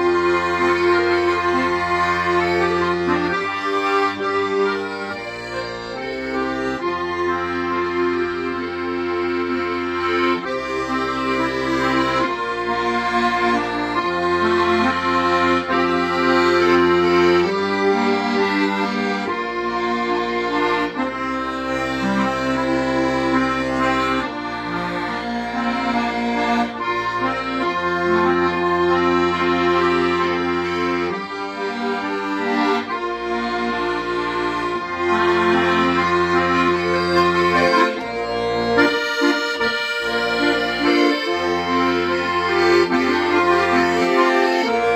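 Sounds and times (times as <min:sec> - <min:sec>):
accordion slow melody: 0:00.0 - 0:44.9.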